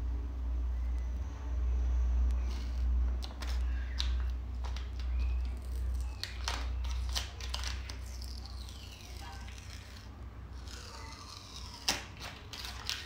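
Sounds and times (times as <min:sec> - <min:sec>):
steady low hum: 0:00.0 - 0:13.0
label tearing and fingernail scraping: 0:02.3 - 0:13.0.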